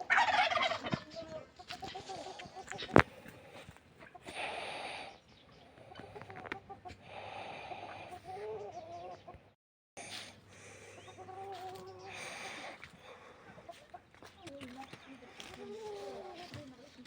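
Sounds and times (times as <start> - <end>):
farm animals calling: 0.0 - 17.0.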